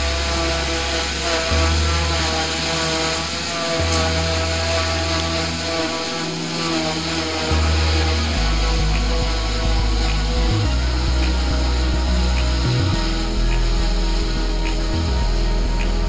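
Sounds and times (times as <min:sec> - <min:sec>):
bass line: 0:00.0 - 0:16.0
distorted rock guitar: 0:00.0 - 0:16.0.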